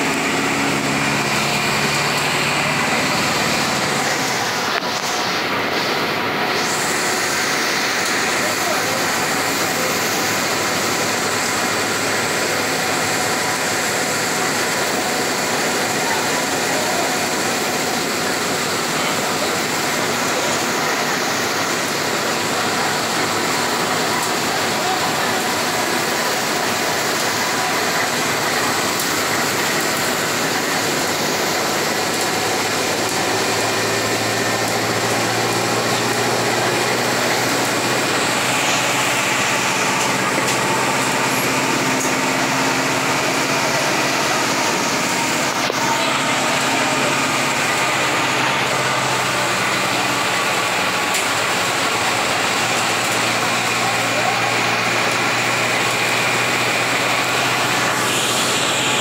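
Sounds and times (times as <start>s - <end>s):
bus cabin noise on wet road: 0.0s - 59.0s.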